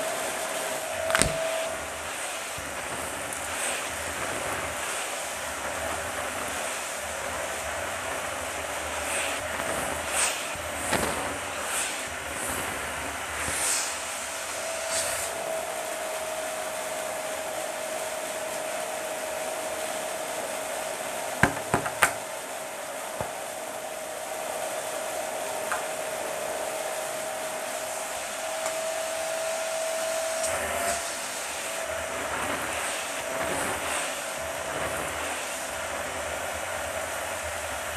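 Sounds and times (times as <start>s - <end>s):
vacuum cleaner whining: 0.0s - 37.9s.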